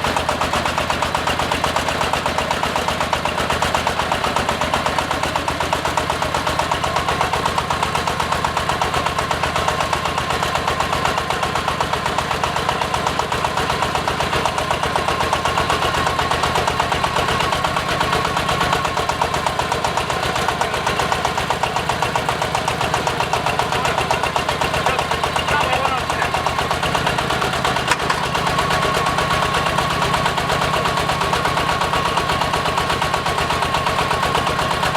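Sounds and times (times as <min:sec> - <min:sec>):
drilling rig diesel engine pulsing: 0:00.0 - 0:34.9.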